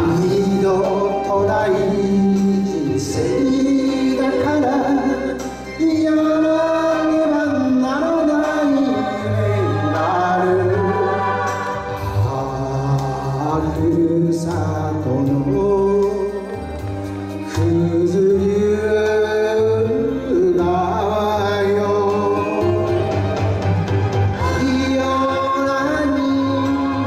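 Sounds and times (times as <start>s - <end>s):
karaoke backing track: 0.0s - 27.0s
man singing with vibrato: 0.0s - 27.0s.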